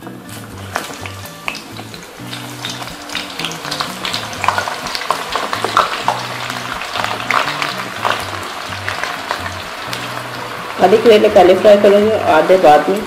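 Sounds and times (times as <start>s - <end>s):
soft background music: 0.0s - 13.0s
vegetables sizzling in hot oil: 0.0s - 13.0s.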